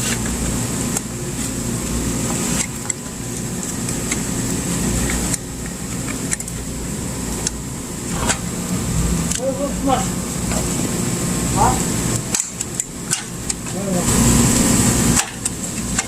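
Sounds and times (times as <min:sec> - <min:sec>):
low mechanical hum with whine: 0:00.0 - 0:16.0.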